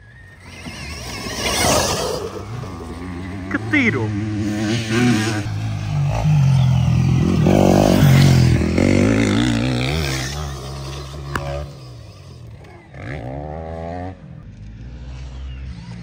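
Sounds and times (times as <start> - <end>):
motocross bike engines: 0.0 - 16.0.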